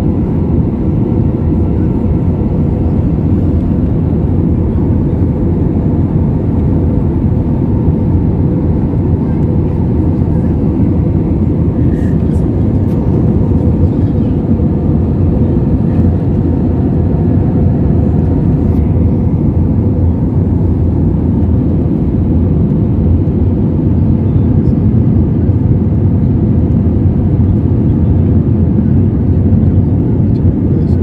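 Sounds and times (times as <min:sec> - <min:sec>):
jet engine and airflow rumble: 0:00.0 - 0:31.0.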